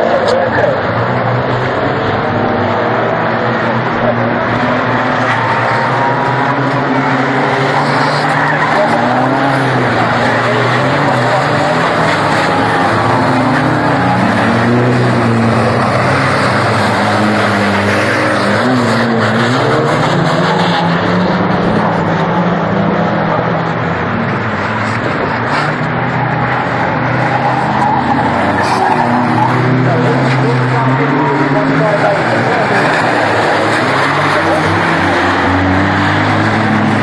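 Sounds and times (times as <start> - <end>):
car engines revving hard: 0.0 - 37.0
exhaust and tyre noise: 0.0 - 37.0.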